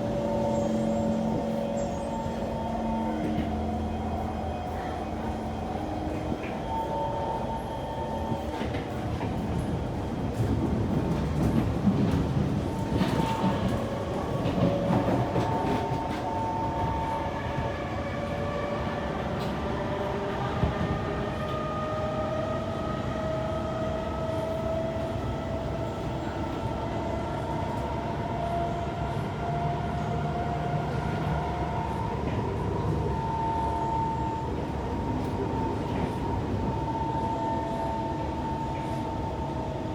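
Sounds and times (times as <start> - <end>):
train rumble and wheel clatter: 0.0 - 39.9.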